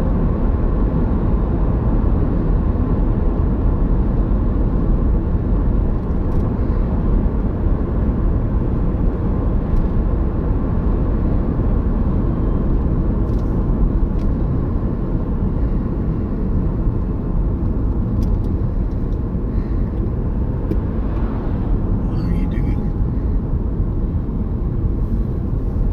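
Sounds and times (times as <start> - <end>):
car road and engine noise: 0.0 - 25.9.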